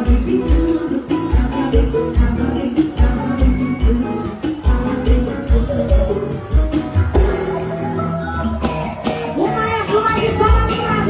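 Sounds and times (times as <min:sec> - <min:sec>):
guitar: 0:00.0 - 0:11.0
live romantic dance music: 0:00.0 - 0:11.0.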